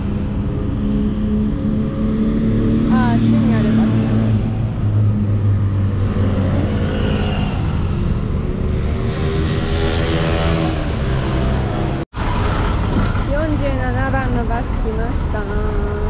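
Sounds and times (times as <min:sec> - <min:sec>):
motorbike accelerating past: 0:00.0 - 0:13.1
traffic engine rumble: 0:00.0 - 0:16.0.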